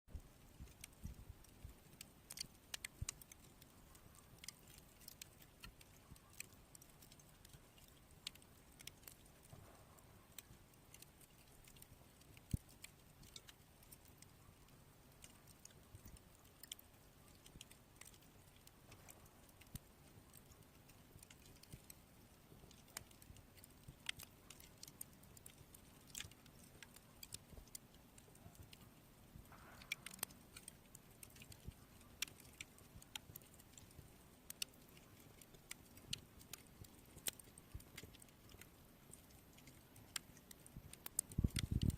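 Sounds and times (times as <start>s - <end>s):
firewood crackling and popping: 0.1s - 41.9s.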